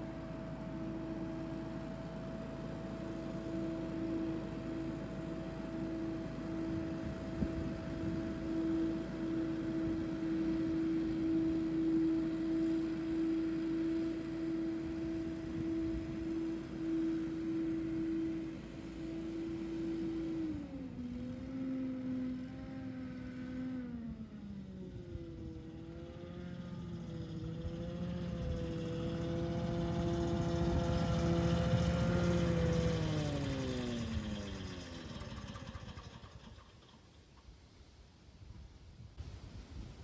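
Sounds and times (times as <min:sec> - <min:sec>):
leaf blower running: 0:00.0 - 0:37.5.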